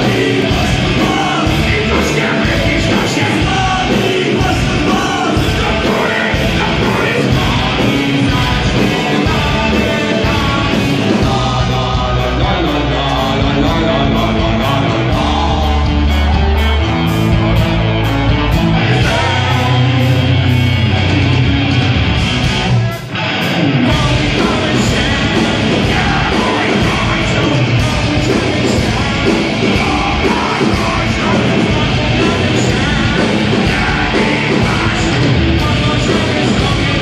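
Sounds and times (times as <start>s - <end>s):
person singing: 0.0s - 16.6s, 18.5s - 20.7s, 23.8s - 37.0s
bass guitar: 0.0s - 37.0s
drums: 0.0s - 37.0s
electric guitars: 0.0s - 37.0s.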